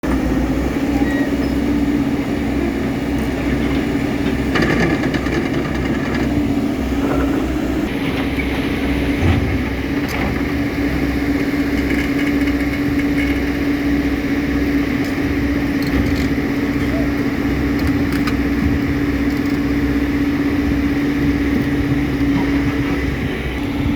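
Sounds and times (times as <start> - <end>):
heavy machine engine rumbling: 0.0 - 23.9.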